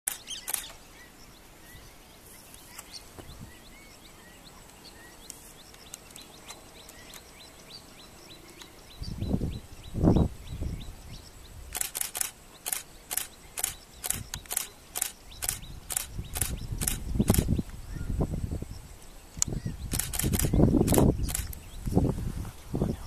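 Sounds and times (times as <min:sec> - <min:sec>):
small bird chirping: 0:00.1 - 0:22.1
faint outdoor ambience: 0:00.1 - 0:23.0.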